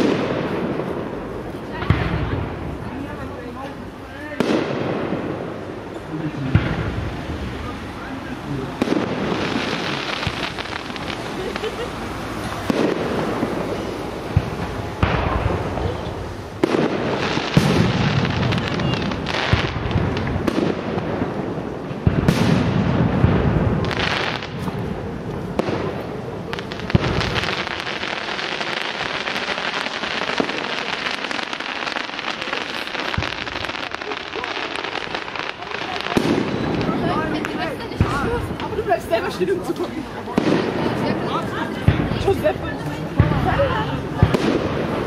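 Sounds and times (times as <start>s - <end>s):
firework shells booming: 0.0s - 3.3s, 4.3s - 7.8s, 8.7s - 39.0s, 40.3s - 42.5s, 43.1s - 45.0s
firework crackle: 0.0s - 45.0s.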